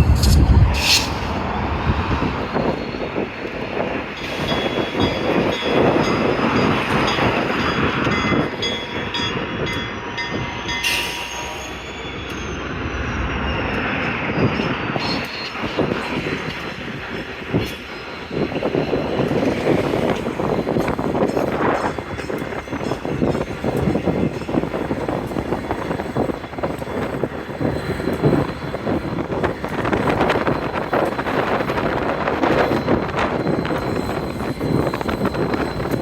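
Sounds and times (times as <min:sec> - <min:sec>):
freight cars rolling on rails: 0:00.0 - 0:36.0.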